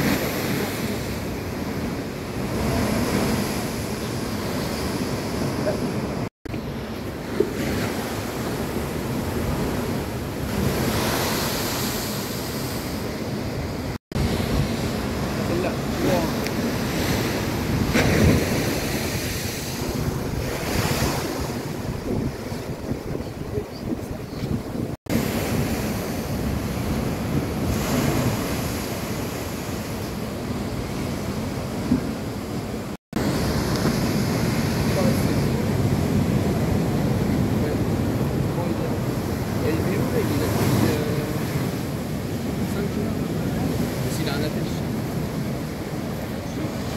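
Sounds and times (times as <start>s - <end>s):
surf rumbling: 0.0s - 46.9s
wave crashing against seawall: 0.0s - 46.9s
wind buffeting microphone: 0.0s - 46.9s.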